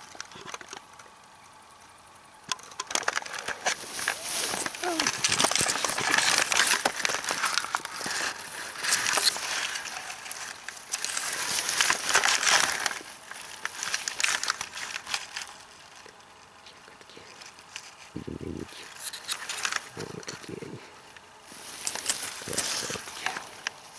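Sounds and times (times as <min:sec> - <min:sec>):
grass and plant stems rustling: 0:00.0 - 0:23.9.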